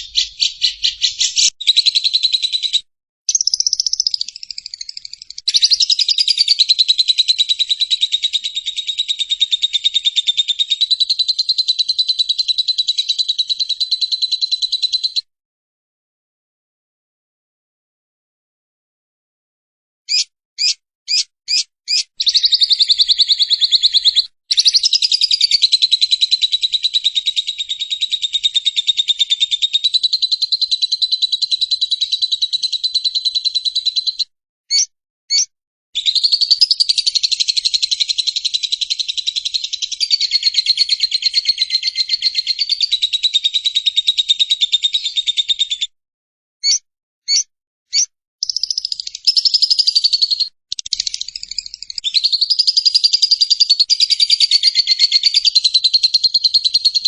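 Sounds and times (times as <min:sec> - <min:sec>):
lovebird chattering trill: 0:00.0 - 0:15.2, 0:20.1 - 0:45.8, 0:46.6 - 0:57.0
bird chirps: 0:00.0 - 0:15.3, 0:20.1 - 0:45.9, 0:46.6 - 0:57.0.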